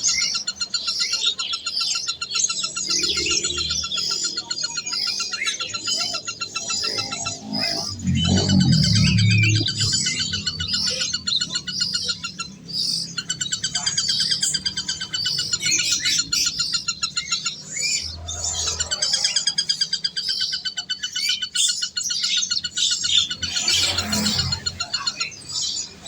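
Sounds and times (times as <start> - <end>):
birds chirping and trilling: 0.0 - 26.0.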